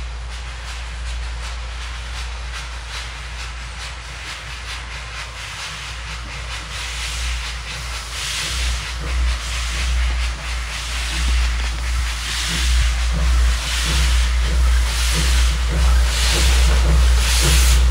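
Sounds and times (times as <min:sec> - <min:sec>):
steam hissing from cylinders: 0:00.0 - 0:17.9
steam locomotive exhaust chuffs: 0:00.0 - 0:17.9.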